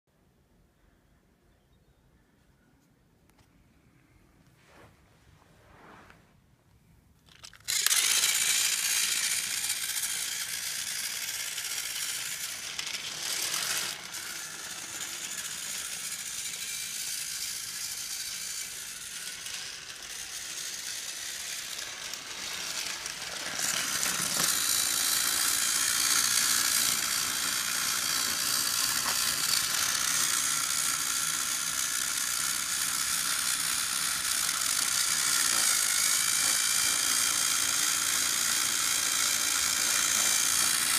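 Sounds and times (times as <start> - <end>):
toy train motor running: 7.2 - 40.9.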